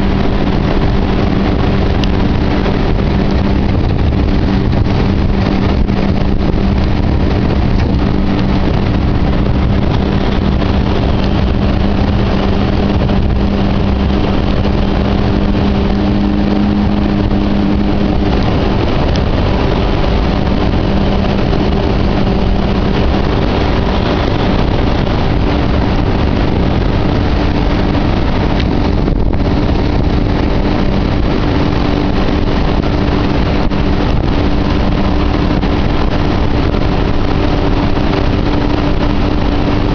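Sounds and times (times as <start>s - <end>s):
boat engine drone: 0.0s - 39.9s
water rushing: 0.0s - 39.9s
wind: 0.0s - 39.9s.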